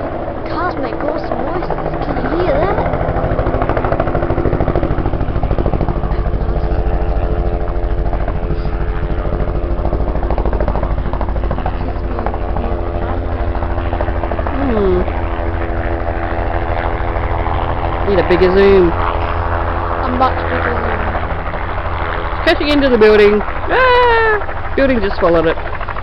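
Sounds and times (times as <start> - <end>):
helicopter engine hum: 0.0 - 26.0
helicopter rotor beating: 0.0 - 26.0.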